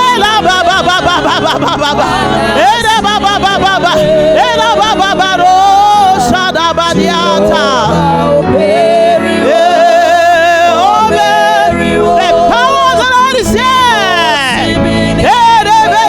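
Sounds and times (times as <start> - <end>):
held chords: 0.0 - 16.0
person singing with pitch bending: 0.0 - 16.0.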